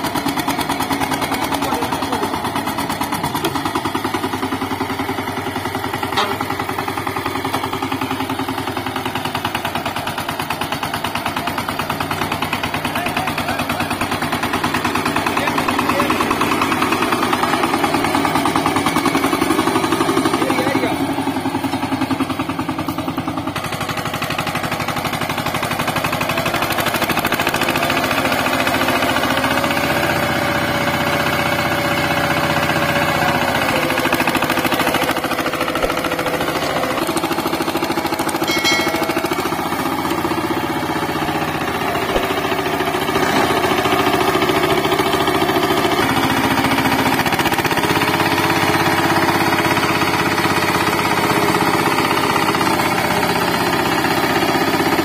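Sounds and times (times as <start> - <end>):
diesel engine chugging: 0.0 - 55.0.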